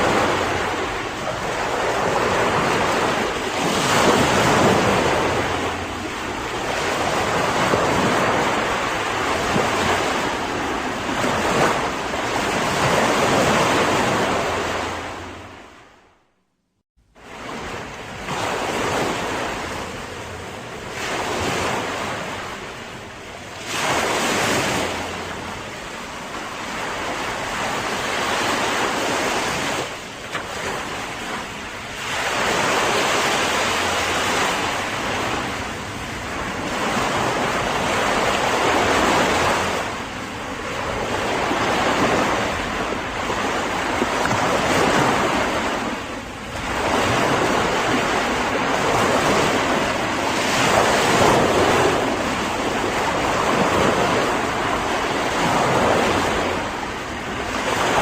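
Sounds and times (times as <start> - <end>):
sea waves breaking on shore: 0.0 - 16.3, 17.0 - 58.0.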